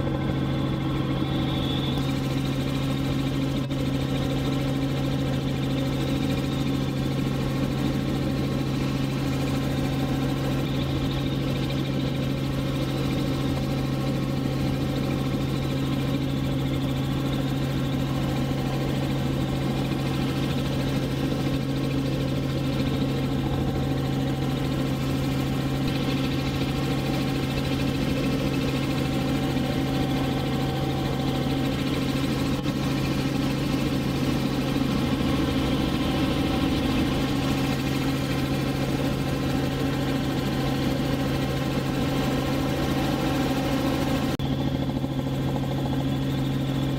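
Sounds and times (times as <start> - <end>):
helicopter engine and rotors droning: 0.0 - 46.9.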